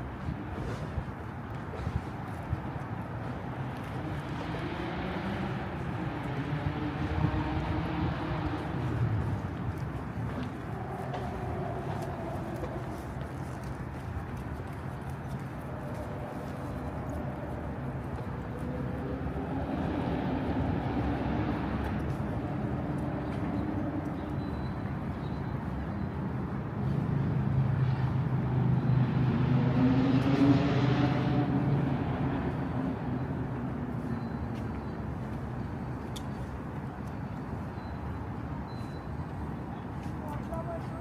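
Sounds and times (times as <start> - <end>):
vehicles passing on street: 0.0 - 41.0.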